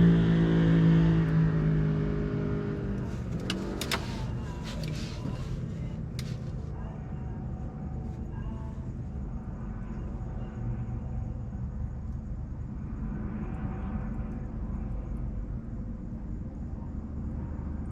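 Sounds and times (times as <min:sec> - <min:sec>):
low rumble of city noise: 0:00.0 - 0:17.9.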